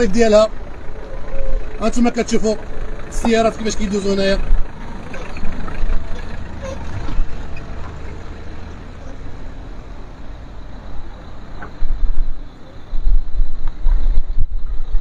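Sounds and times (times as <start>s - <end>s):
cars rolling over gravelly road: 0.0s - 15.0s.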